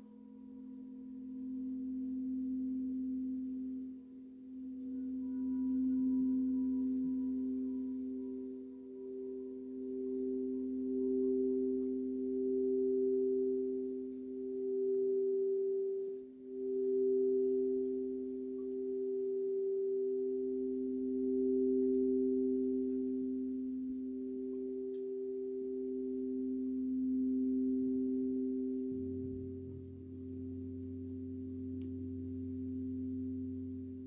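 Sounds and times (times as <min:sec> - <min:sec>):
singing bowls sustained tones: 0:00.0 - 0:34.0.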